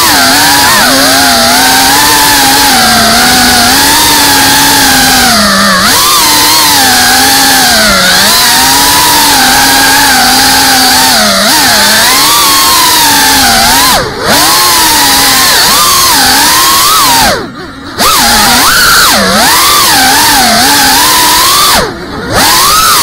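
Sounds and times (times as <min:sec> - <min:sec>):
drone motors and propellers whining: 0:00.0 - 0:23.0.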